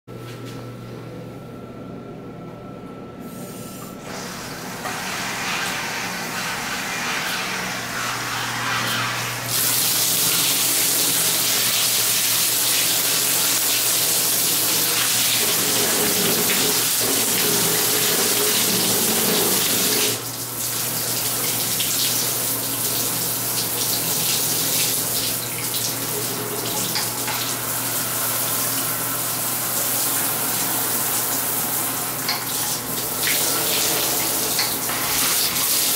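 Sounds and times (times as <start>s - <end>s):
shower spraying into bathtub: 4.0s - 35.9s.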